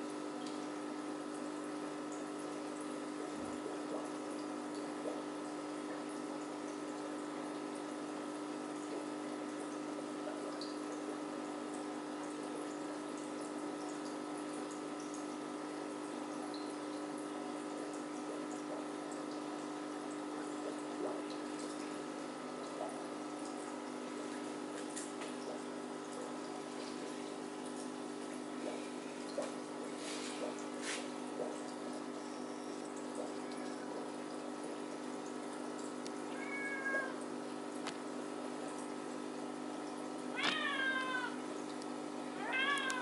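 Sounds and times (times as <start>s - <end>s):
aquarium pump humming: 0.0s - 43.0s
water burbling: 0.0s - 43.0s.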